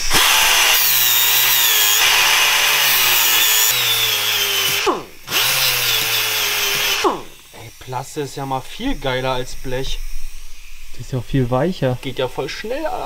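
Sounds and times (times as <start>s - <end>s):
air grinder whining: 0.0s - 13.0s
hissing air: 0.0s - 13.0s.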